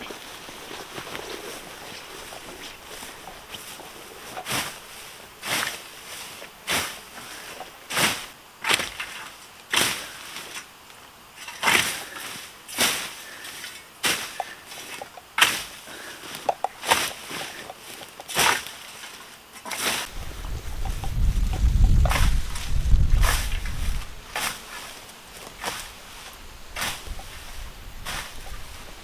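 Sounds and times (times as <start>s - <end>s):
scythe swishing through grass: 0.0s - 10.7s, 11.4s - 29.0s.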